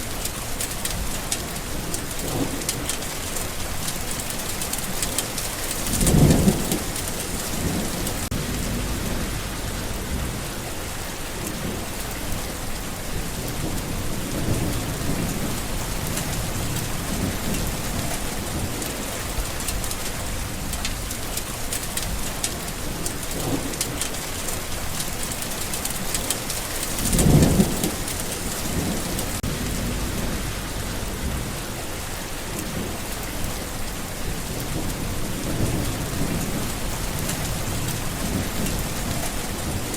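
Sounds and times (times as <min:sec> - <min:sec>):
rain pouring: 0:00.0 - 0:39.9
thunder rolling: 0:00.8 - 0:11.0, 0:11.6 - 0:21.2, 0:26.0 - 0:39.9.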